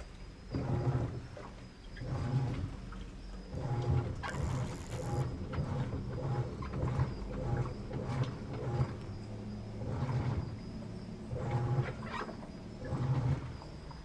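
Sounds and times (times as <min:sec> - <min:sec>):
washing machine agitating water: 0:00.0 - 0:14.0.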